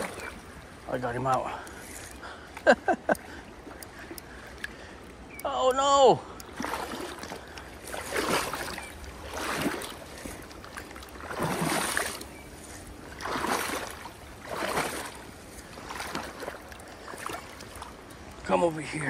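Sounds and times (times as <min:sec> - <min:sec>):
river water splashing at bank: 0:00.0 - 0:19.0.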